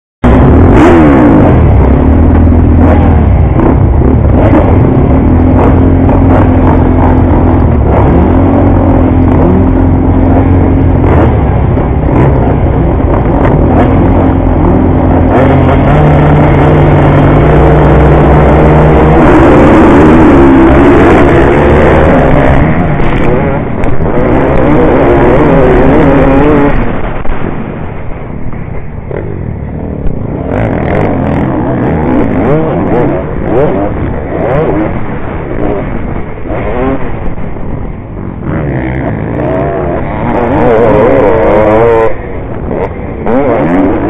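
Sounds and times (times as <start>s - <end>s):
motocross bike engines revving: 0.2s - 28.0s, 28.7s - 44.0s.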